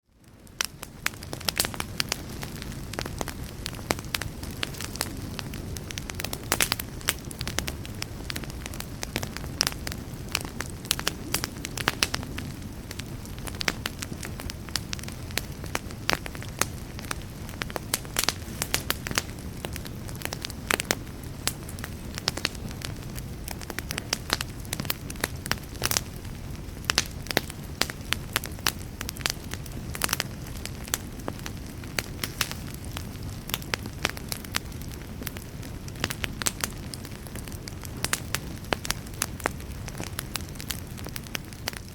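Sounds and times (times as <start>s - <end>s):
campfire flames rumbling: 0.0s - 41.9s
fire crackling and popping: 0.0s - 41.9s.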